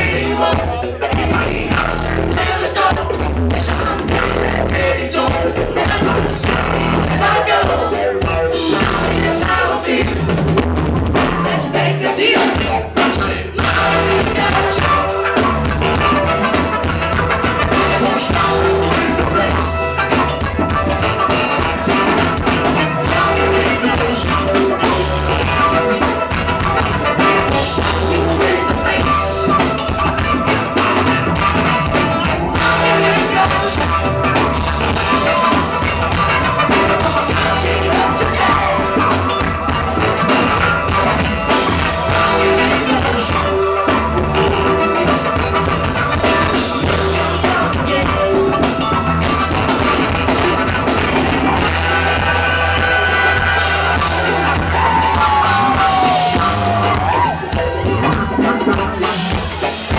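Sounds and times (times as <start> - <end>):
live funk band playing: 0.0 - 59.9.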